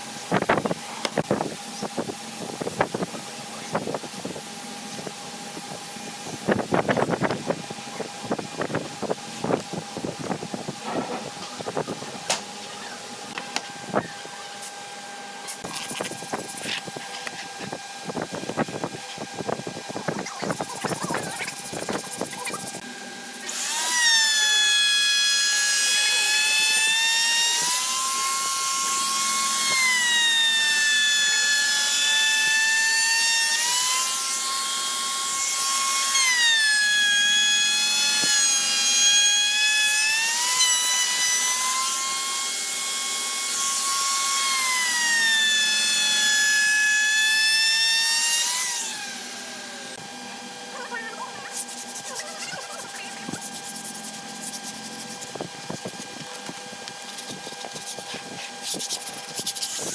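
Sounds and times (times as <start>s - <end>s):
power tool whining on wood: 0.0s - 59.9s.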